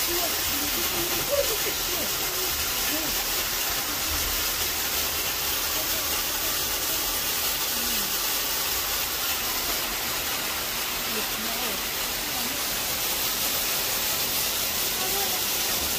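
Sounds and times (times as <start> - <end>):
heavy rain pouring: 0.0 - 15.9
water splashing off roof edge: 0.0 - 15.9.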